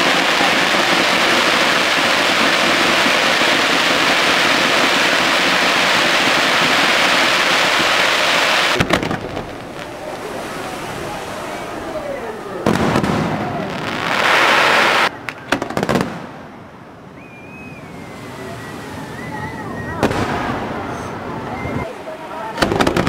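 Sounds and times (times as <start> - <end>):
fireworks crackling: 0.0 - 16.7, 18.0 - 23.0.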